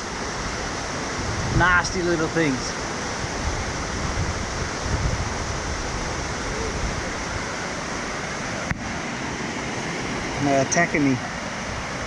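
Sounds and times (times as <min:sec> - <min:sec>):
rushing creek and waterfall: 0:00.0 - 0:12.0.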